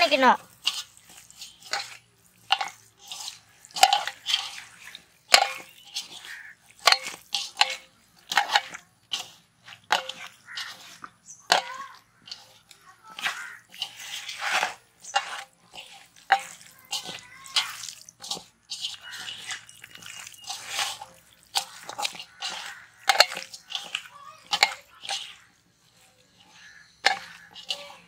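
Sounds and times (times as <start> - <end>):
hands squelching wet meat: 0.0 - 28.0.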